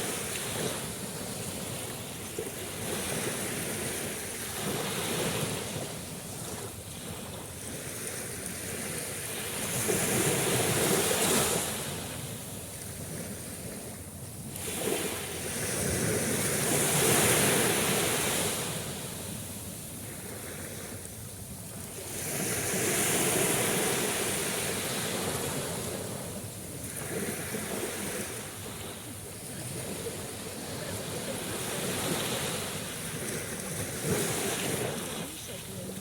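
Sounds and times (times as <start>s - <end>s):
sea waves washing ashore: 0.0s - 36.0s.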